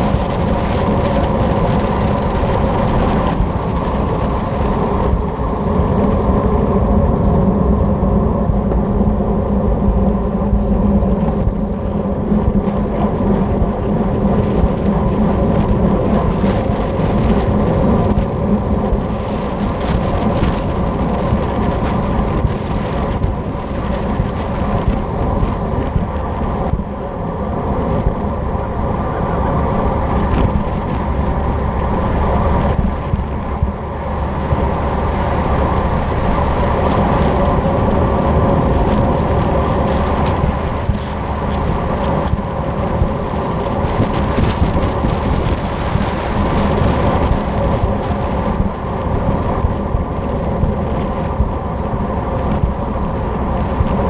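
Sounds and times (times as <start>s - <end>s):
tyres rolling on asphalt: 0.0s - 54.0s
wind buffeting microphone: 0.0s - 54.0s.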